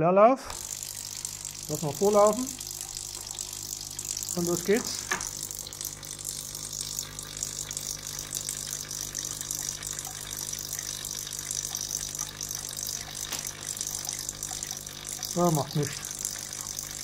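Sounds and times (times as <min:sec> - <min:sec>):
electric water pump humming: 0:00.5 - 0:17.0.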